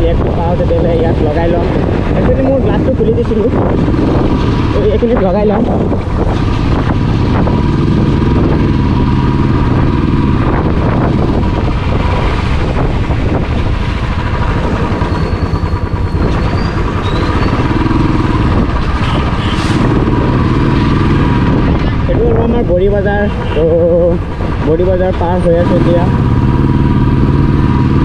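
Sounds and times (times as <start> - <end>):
motorcycle engine running: 0.0 - 28.0
wind noise on microphone: 0.0 - 28.0.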